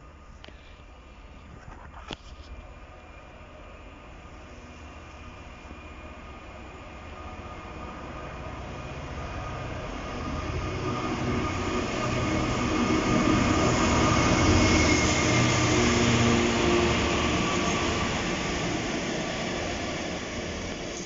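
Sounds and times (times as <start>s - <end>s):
diesel locomotive engine rumble: 0.0s - 21.0s
train wheel noise: 0.0s - 21.0s.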